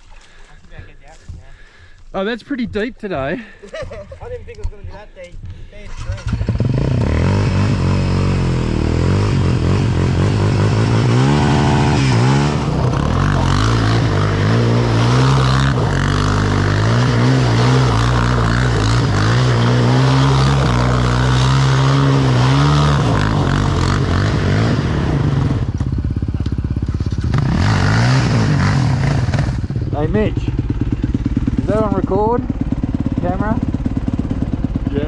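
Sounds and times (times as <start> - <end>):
atv engine revving in mud: 5.9 - 35.0.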